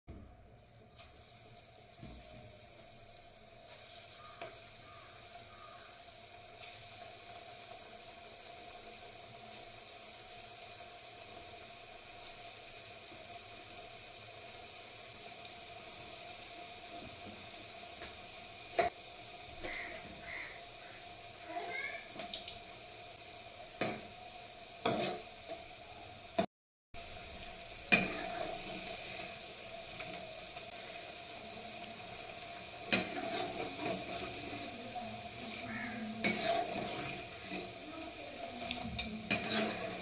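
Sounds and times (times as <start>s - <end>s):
food sizzling in hot oil: 0.8s - 40.0s.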